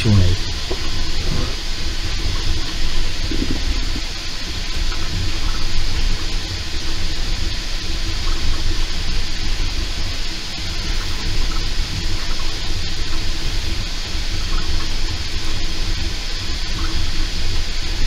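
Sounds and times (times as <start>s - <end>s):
rushing fan noise: 0.0s - 18.0s.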